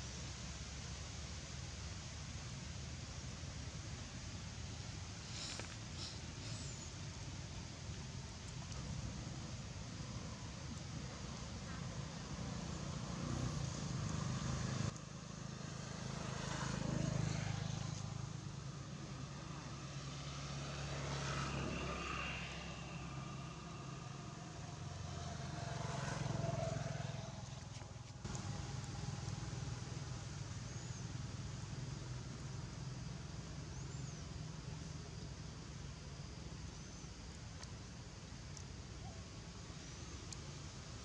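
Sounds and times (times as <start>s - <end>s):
road traffic hum: 0.0s - 41.0s
vehicles passing: 3.8s - 41.0s.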